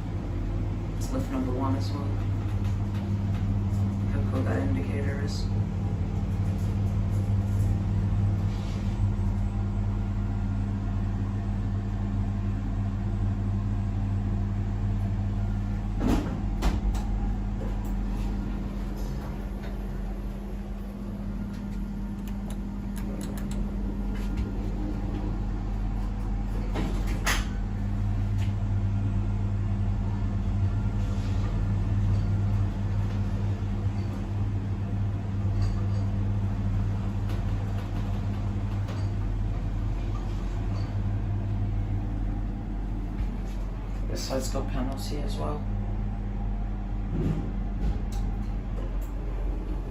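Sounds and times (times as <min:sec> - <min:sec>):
lift machinery electrical hum: 0:00.0 - 0:49.9.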